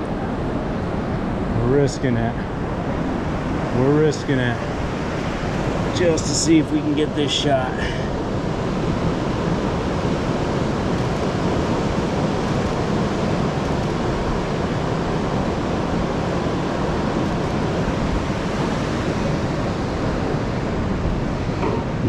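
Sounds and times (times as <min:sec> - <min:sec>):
ocean surf rushing: 0:00.0 - 0:22.0
wind: 0:00.0 - 0:22.0.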